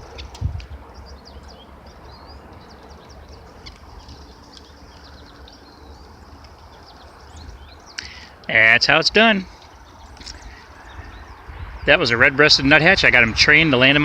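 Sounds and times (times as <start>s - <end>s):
songbirds chirping: 0.0s - 14.0s
steady low rumble: 0.0s - 14.0s.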